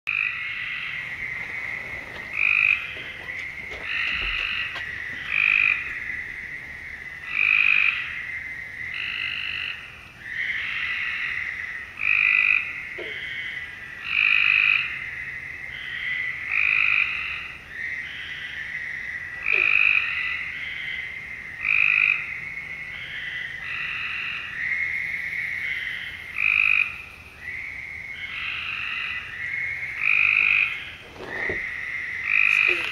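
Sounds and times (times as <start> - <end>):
frogs calling: 0.1 - 32.9.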